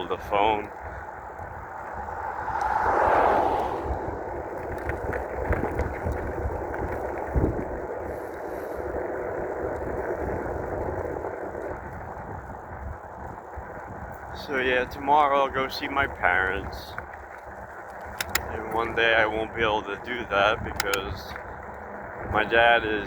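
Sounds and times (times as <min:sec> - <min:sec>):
tyres and wind rushing: 0:00.0 - 0:23.0.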